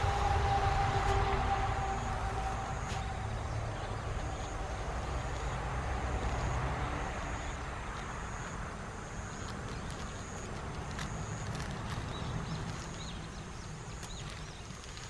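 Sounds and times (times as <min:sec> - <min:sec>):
road traffic rumble: 0:00.0 - 0:15.0
vehicle engine hum: 0:00.0 - 0:15.0.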